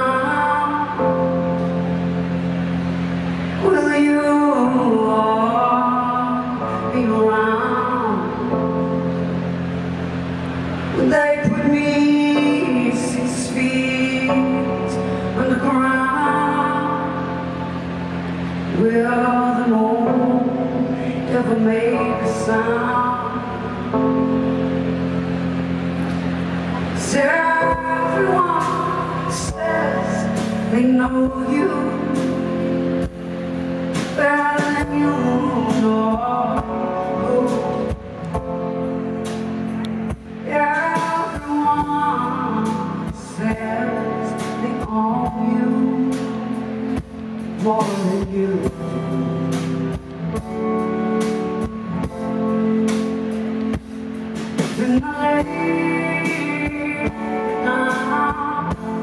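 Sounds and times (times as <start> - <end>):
drums: 0.0 - 59.0
woman singing into microphone: 0.0 - 59.0.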